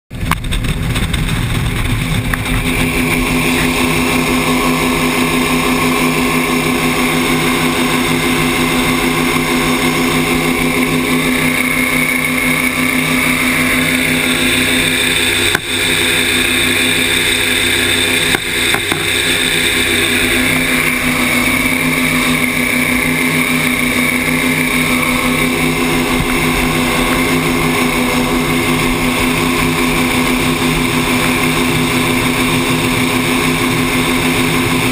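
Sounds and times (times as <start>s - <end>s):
powerboat engine running: 0.1s - 34.9s
water noise: 0.1s - 34.9s.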